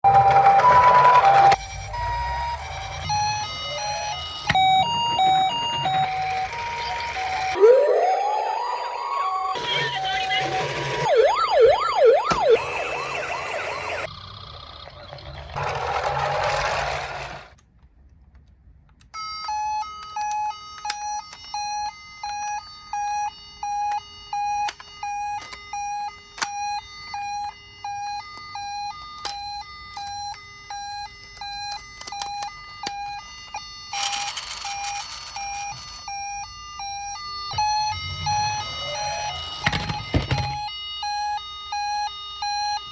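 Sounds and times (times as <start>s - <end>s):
toy siren beeping: 0.1s - 15.6s, 19.2s - 42.9s.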